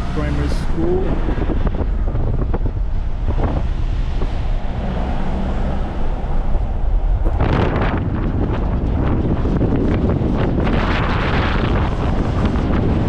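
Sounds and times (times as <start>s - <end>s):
low road rumble: 0.0s - 13.0s
wind buffeting microphone: 0.0s - 13.0s.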